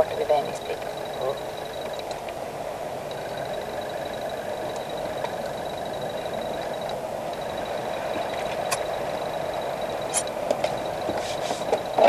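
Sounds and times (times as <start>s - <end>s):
car engine and tyre noise: 0.0s - 12.0s
faint high whine: 0.0s - 12.0s.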